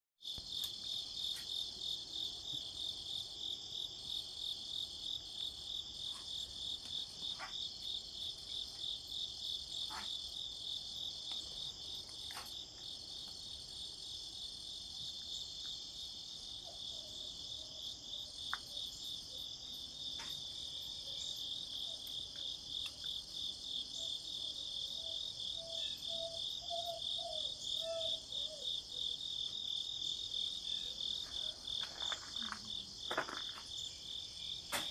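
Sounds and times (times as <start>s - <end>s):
insects chirping: 0.2s - 34.9s.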